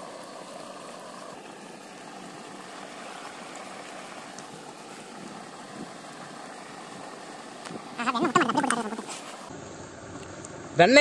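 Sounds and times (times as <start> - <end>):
low outdoor hiss: 0.0 - 11.0.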